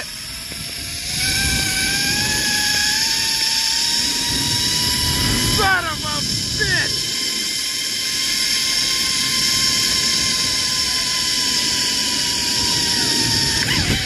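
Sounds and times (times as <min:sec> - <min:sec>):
zip line pulleys whirring: 0:00.0 - 0:14.0.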